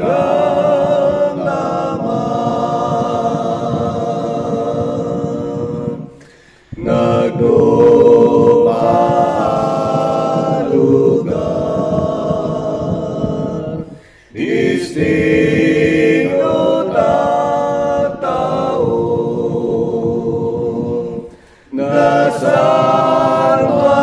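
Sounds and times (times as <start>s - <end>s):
man singing a cappella: 0.0s - 24.0s.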